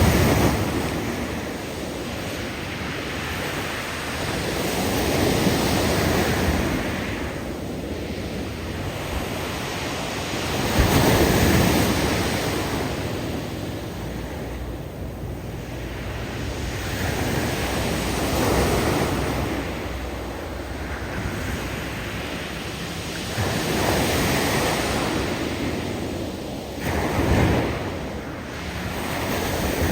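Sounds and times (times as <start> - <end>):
waves surging on cobbles: 0.0 - 29.9.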